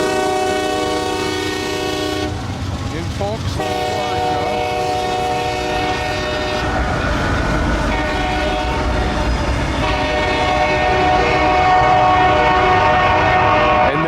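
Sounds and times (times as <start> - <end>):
locomotive horn blasts: 0.0 - 2.4, 3.6 - 6.7, 7.9 - 14.0
diesel engines rumbling: 0.0 - 14.0.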